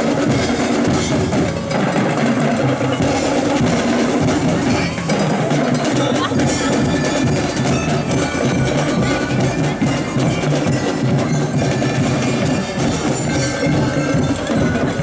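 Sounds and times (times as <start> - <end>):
drums beating: 0.0 - 15.0
bell lyres ringing: 0.1 - 15.0.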